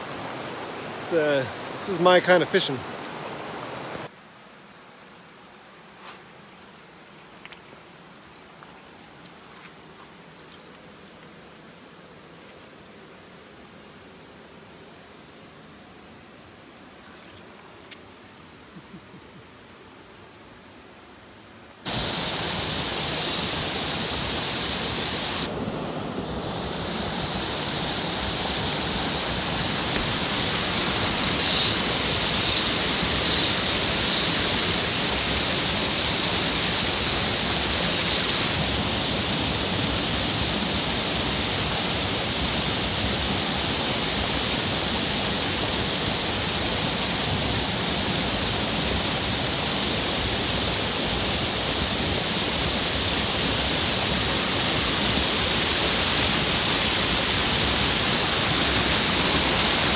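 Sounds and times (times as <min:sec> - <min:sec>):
stream rushing over rocks: 0:00.0 - 0:18.7, 0:19.5 - 0:59.9.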